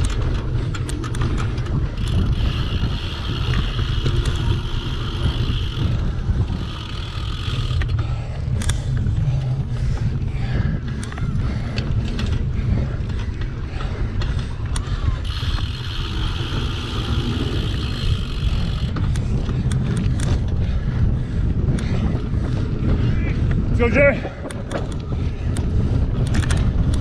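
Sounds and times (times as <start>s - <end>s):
bike parts rattling and clicking: 0.0s - 27.0s
wind rumble on microphone: 0.0s - 27.0s.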